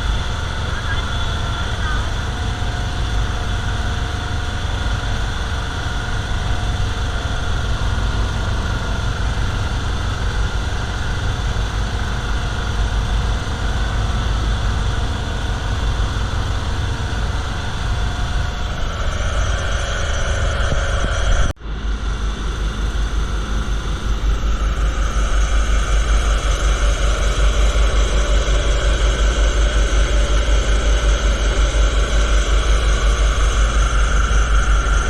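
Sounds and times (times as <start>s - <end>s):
boat engine idling: 0.0s - 35.0s.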